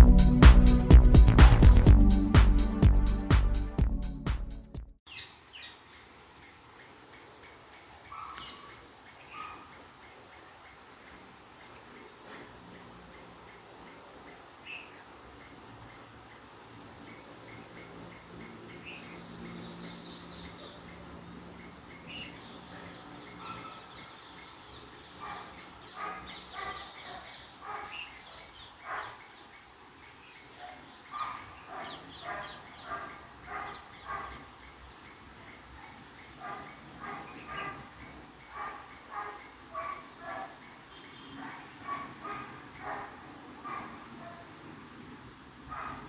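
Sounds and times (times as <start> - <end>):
birds chirping: 5.1 - 46.0
low background hiss: 5.1 - 46.0.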